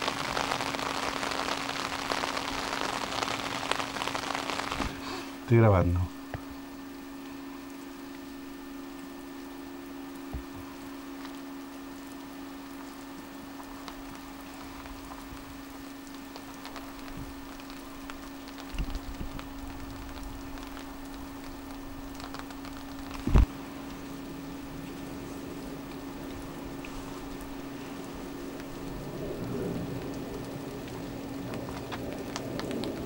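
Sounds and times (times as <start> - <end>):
rain falling: 0.0 - 33.0
low hum: 3.7 - 33.0
drips ticking: 6.1 - 33.0.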